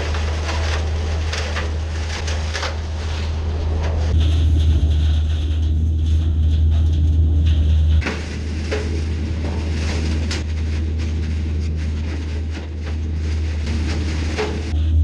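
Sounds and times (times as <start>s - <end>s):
hay blower fan humming: 0.0s - 15.0s
knocks and scrapes of forked hay: 0.0s - 15.0s.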